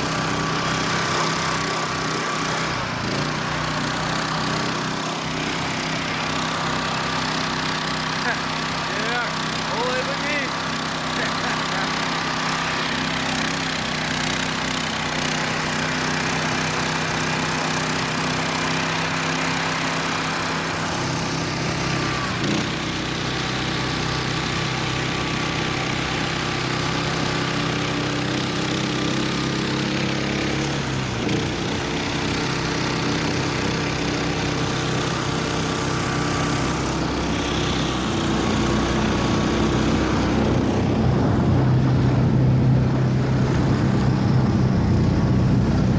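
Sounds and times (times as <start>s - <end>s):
vehicle engine running under load: 0.0s - 45.9s.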